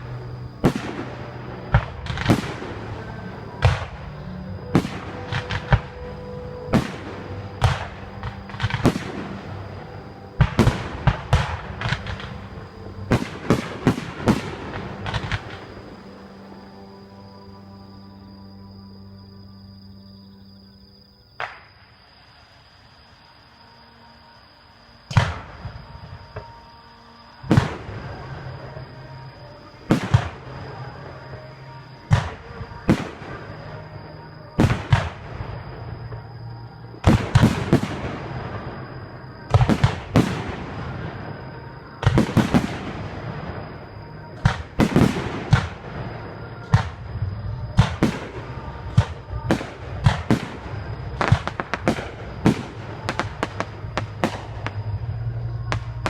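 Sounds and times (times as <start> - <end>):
fireworks bursting: 0.0 - 17.3, 25.0 - 56.0.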